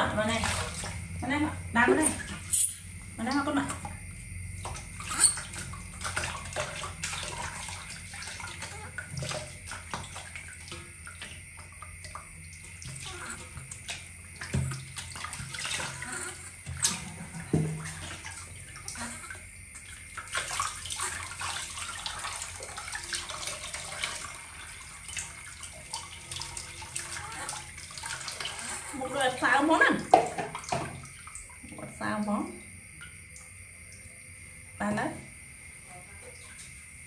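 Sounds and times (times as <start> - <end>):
water splashing in metal basin: 0.0 - 34.1, 36.2 - 37.0.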